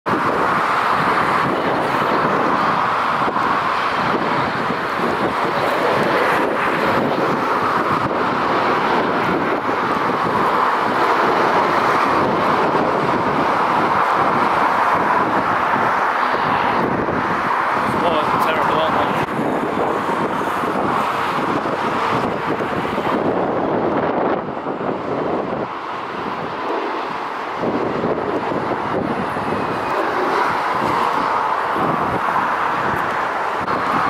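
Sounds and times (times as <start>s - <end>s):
jet engine noise: 0.0s - 34.0s
wind buffeting microphone: 0.0s - 34.0s.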